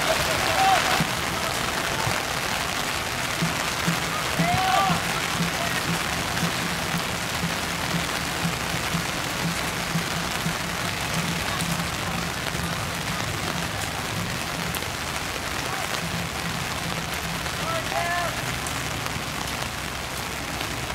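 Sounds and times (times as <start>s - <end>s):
heavy rain pouring: 0.0s - 20.9s
raindrops ticking: 0.0s - 20.9s.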